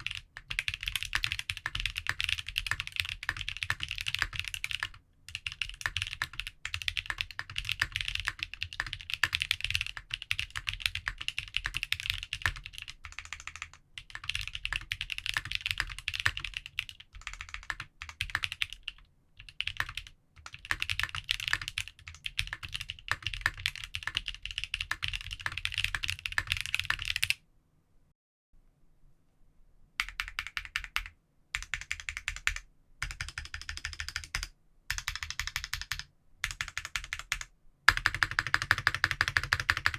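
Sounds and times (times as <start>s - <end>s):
fast typing on mechanical keyboard: 0.0s - 27.4s, 30.0s - 39.9s.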